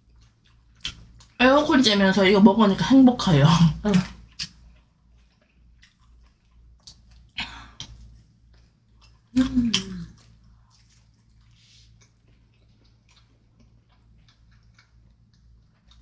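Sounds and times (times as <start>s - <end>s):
crunchy chewing: 0.0s - 1.4s, 3.8s - 16.0s.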